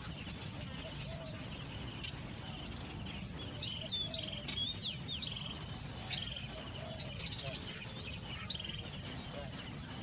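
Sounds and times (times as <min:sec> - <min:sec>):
birds whistling and trilling: 0:00.0 - 0:10.0.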